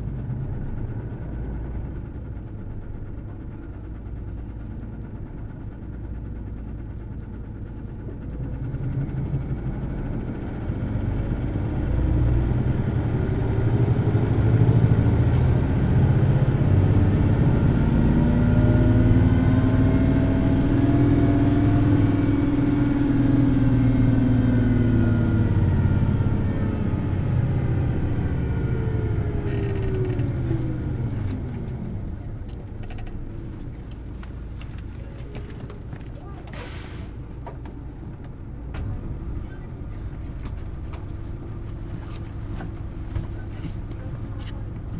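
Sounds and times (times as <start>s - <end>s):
bus engine accelerating: 0.0s - 44.9s.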